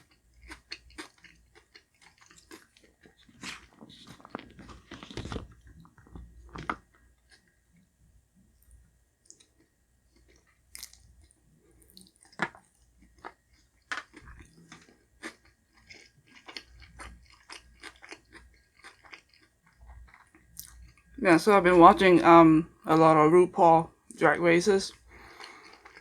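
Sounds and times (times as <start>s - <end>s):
person chewing food: 0.0s - 7.8s, 8.5s - 21.2s, 24.9s - 26.0s.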